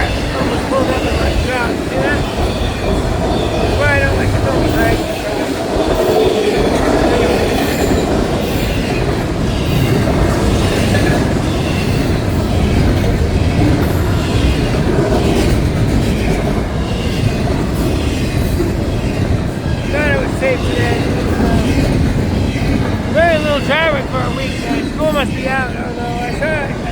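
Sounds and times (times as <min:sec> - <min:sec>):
freight train rolling past: 0:00.0 - 0:26.9.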